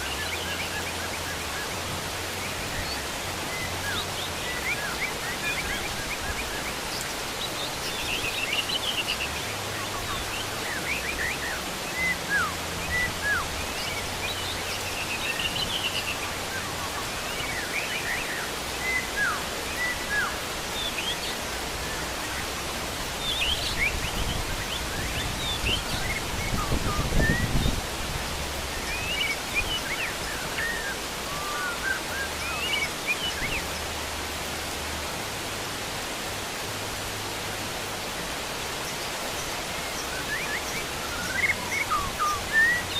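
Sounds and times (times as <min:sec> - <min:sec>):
birds chirping and whistling: 0:00.0 - 0:33.9, 0:38.7 - 0:42.9
heavy rain: 0:00.0 - 0:42.9.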